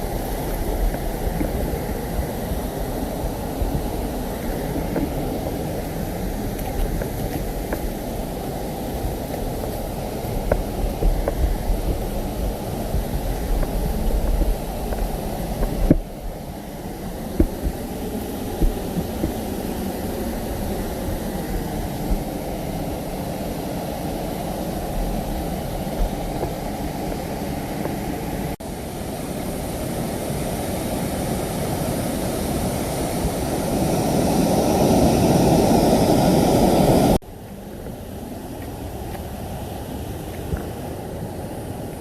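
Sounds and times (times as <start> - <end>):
waterfall rushing: 0.0 - 37.2.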